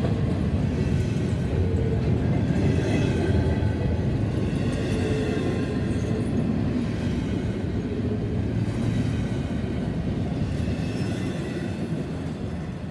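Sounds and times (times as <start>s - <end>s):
freight train wheels rumbling: 0.0s - 12.9s.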